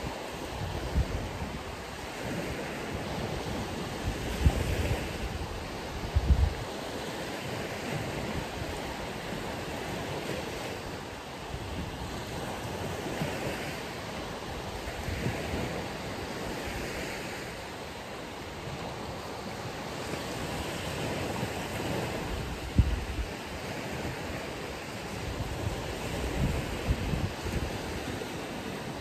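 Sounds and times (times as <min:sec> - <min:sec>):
ocean waves on beach: 0:00.0 - 0:29.0
wind on microphone: 0:00.0 - 0:29.0.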